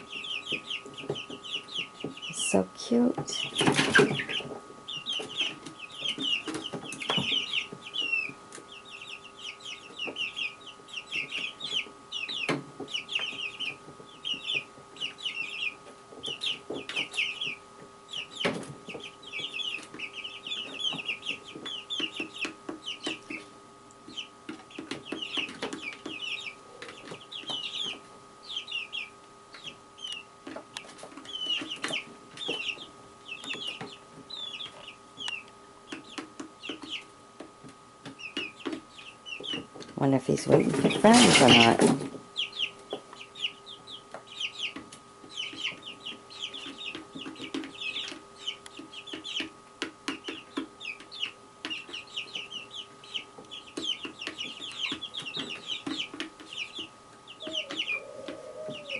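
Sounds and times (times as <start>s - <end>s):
faint steady hum: 0.0s - 58.9s
songbirds chirping: 0.0s - 58.9s.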